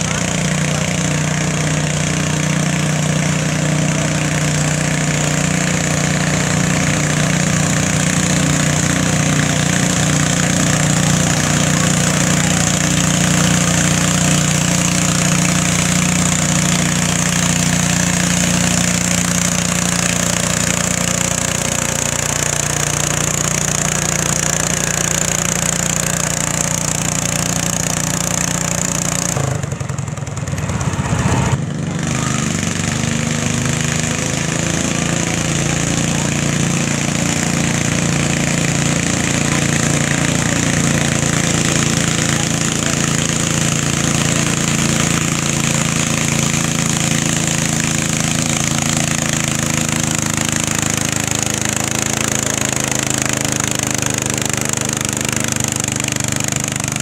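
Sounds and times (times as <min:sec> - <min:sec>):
small tractor engine under load: 0:00.0 - 0:57.0.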